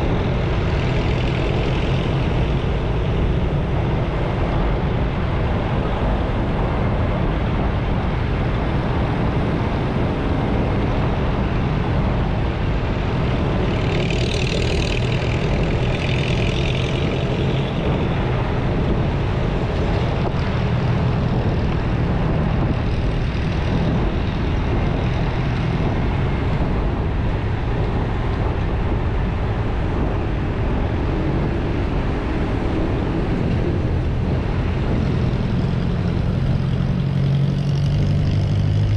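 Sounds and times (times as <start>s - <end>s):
motorcycle engine and road noise: 0.0s - 38.9s.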